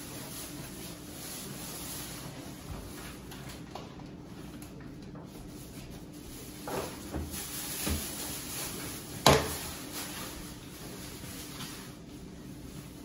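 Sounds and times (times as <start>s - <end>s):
plastic bag rustling: 0.0s - 3.8s, 5.5s - 13.0s.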